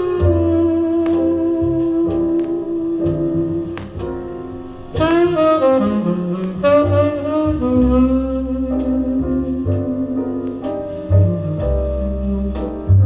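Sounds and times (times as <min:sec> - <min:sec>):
jazz saxophone record: 0:00.0 - 0:13.0.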